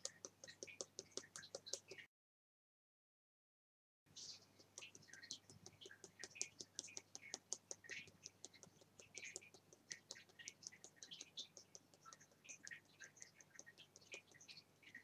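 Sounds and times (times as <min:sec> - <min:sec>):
fingertips tapping on hand: 0:00.0 - 0:02.1, 0:04.6 - 0:14.6.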